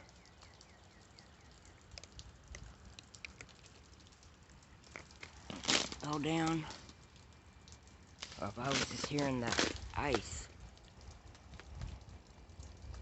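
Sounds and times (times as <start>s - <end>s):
melting ice dripping from branches: 0.0s - 13.0s.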